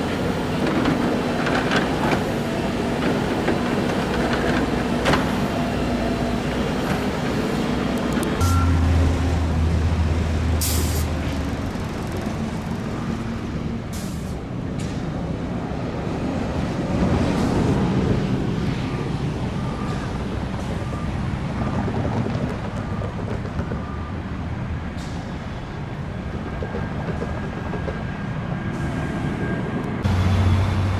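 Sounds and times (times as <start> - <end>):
heavy vehicle engine rumbling: 0.0 - 26.7, 28.6 - 30.9
road traffic noise: 0.0 - 30.9.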